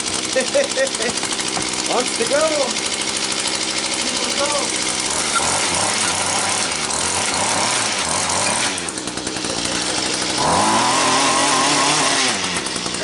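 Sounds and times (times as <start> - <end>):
rototiller engine revving: 0.0 - 13.0.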